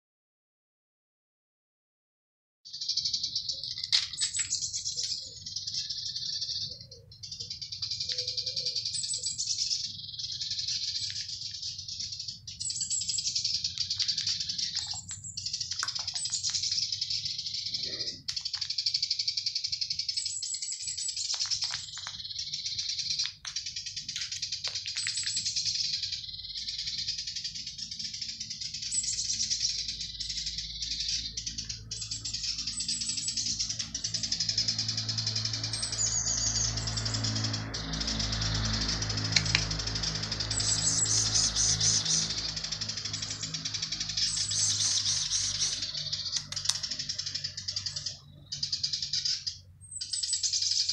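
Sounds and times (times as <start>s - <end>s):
small birds chirping: 2.7s - 50.9s.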